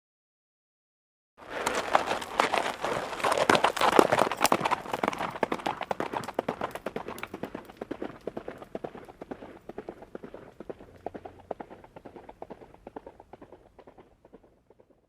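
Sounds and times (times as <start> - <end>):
galloping horse hooves: 1.4 - 15.0.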